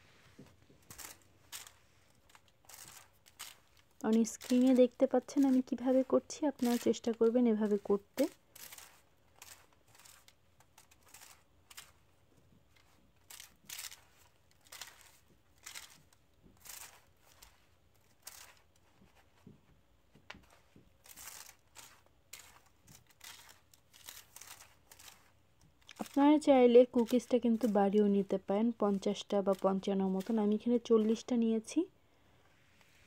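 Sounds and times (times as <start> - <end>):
aluminium foil crinkling: 0.6 - 19.3, 20.4 - 31.7.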